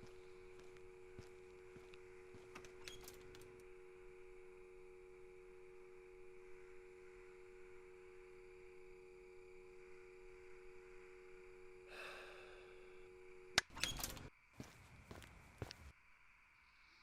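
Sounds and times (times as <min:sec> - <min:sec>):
low hum: 0:00.0 - 0:15.9.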